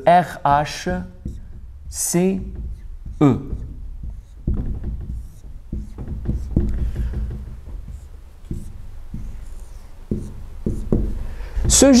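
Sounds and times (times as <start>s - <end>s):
marker pen writing on whiteboard: 0.0s - 12.0s
steady low hum: 0.0s - 12.0s.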